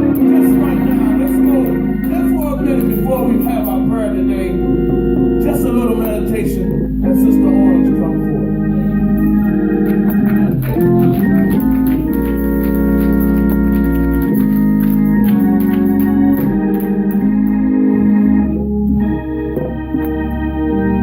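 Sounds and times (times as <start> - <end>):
organ playing slow sustained chords: 0.0 - 21.0.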